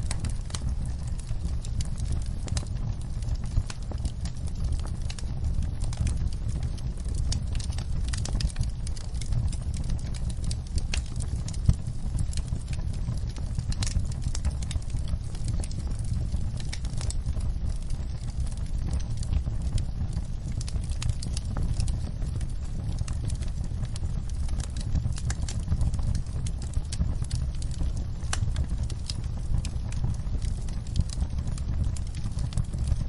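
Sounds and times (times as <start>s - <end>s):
rain: 0.0s - 33.0s
wood fire crackling: 0.0s - 33.0s.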